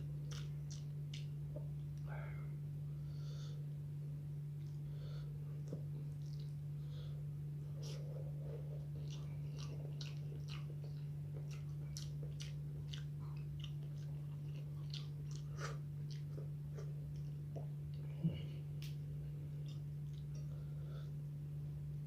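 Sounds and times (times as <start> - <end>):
person chewing: 0.0 - 2.1, 5.4 - 21.1
low hum: 0.0 - 22.0.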